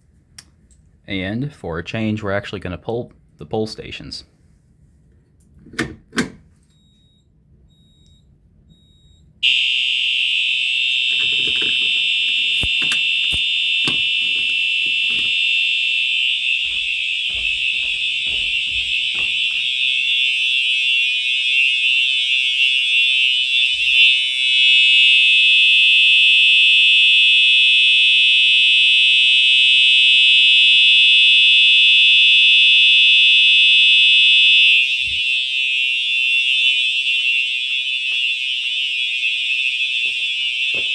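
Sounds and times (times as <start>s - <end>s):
high-pitched fire alarm tone: 6.7s - 40.9s.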